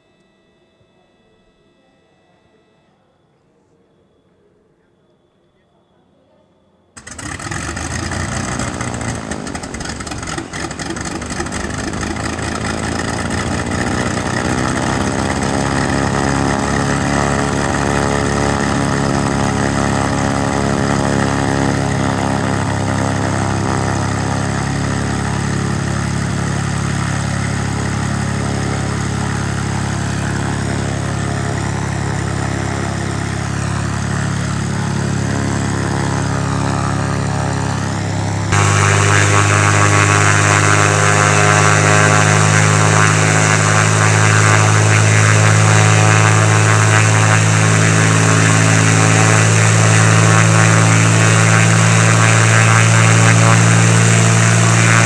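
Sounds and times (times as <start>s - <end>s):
propeller aircraft engine running: 7.0s - 55.0s.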